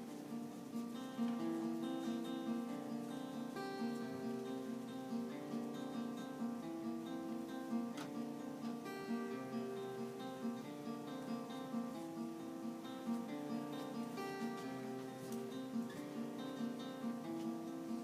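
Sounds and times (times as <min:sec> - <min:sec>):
acoustic guitar plucked and strummed: 0:00.0 - 0:18.0.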